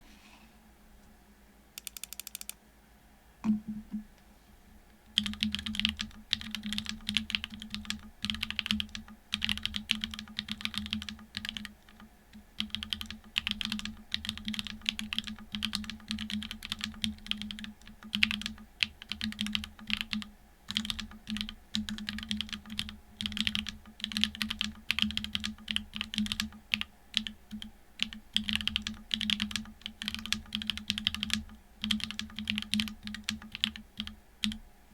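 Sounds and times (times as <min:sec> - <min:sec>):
mechanical keyboard typing: 0:01.8 - 0:02.6, 0:05.2 - 0:34.6.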